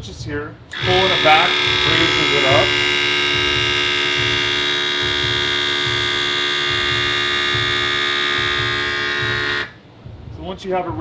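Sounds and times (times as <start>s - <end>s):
air compressor whining: 0.7s - 9.8s.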